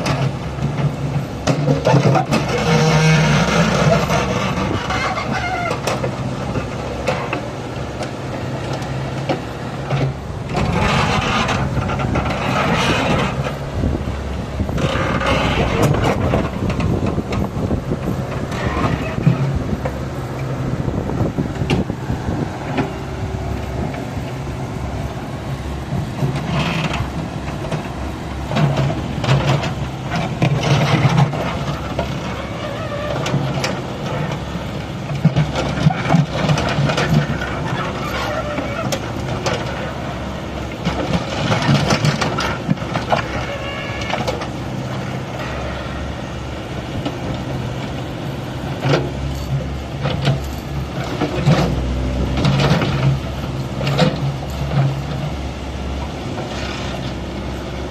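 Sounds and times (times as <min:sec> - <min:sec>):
digger engine running: 0:00.0 - 0:57.9.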